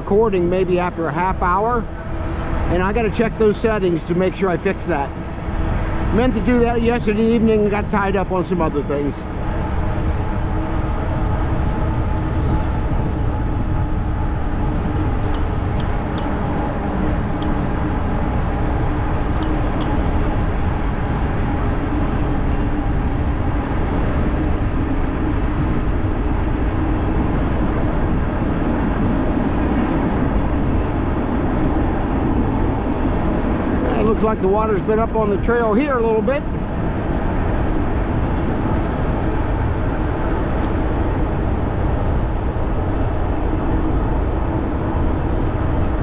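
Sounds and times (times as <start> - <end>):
steady hum: 0.0 - 46.0
wind on microphone: 0.0 - 46.0.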